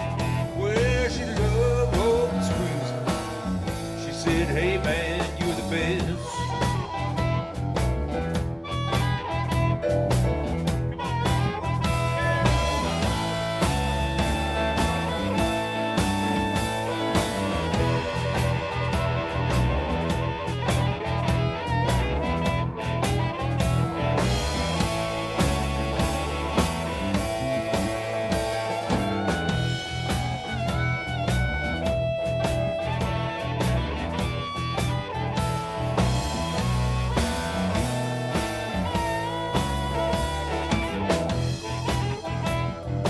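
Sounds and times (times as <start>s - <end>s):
bass: 0.0s - 43.0s
blues guitar lead: 0.0s - 43.0s
steady drum beat: 0.0s - 43.0s.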